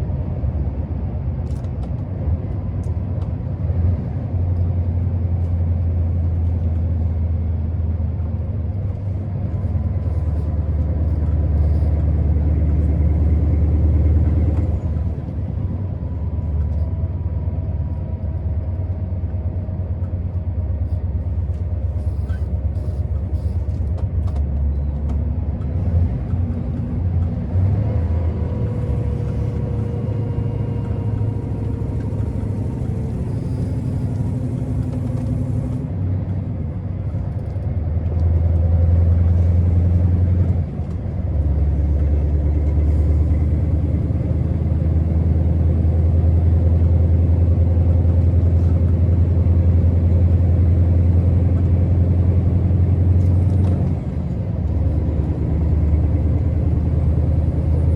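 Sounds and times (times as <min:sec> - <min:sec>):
truck diesel engine humming: 0:02.2 - 0:57.9.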